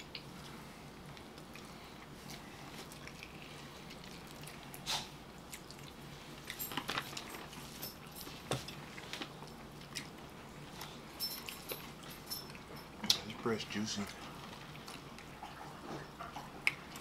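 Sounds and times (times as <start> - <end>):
chewing: 0.0 - 17.0
faint low hum: 0.0 - 17.0.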